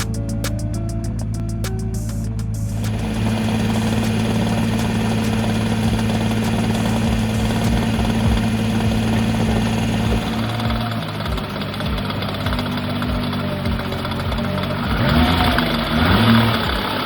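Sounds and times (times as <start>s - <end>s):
car engine idling with rattle: 1.0s - 17.0s.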